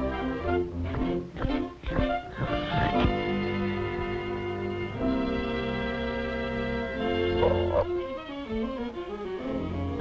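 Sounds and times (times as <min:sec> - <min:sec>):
orchestral bowed strings: 0:00.0 - 0:10.0.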